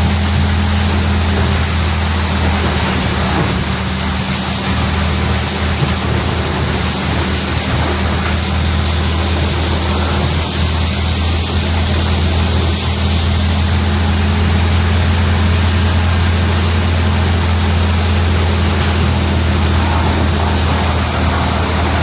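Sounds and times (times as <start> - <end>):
wood chipper running: 0.0 - 22.0.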